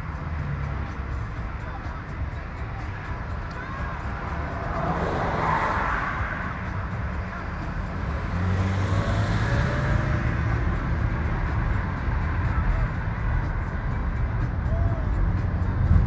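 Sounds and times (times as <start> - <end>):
car engine rumble from inside: 0.0 - 16.0.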